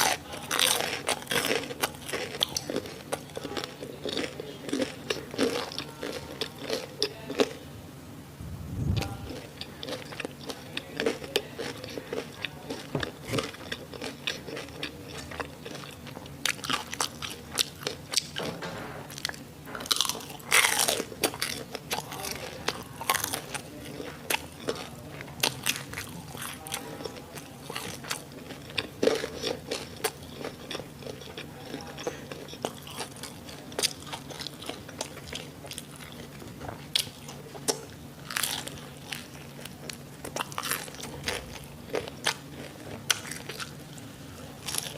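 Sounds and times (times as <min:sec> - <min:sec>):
crunchy chewing: 0:00.0 - 0:07.7, 0:08.8 - 0:44.9.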